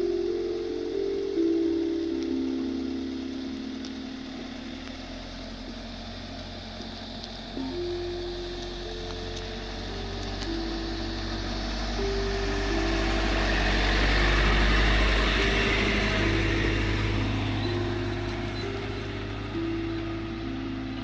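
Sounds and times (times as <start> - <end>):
slow melody of held notes: 0.0 - 21.0
van driving over cobblestones: 0.0 - 21.0.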